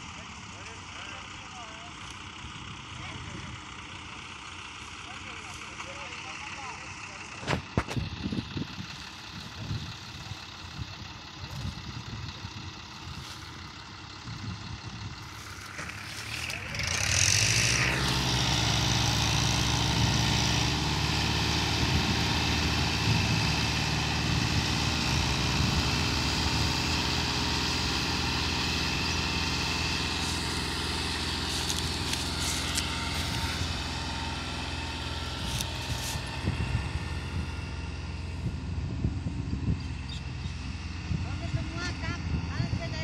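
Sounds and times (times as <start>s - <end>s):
tractor engines droning: 0.0s - 43.0s.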